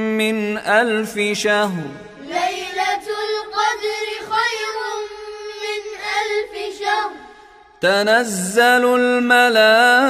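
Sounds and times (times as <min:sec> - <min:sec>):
high voice chanting recitation: 0:00.0 - 0:10.0.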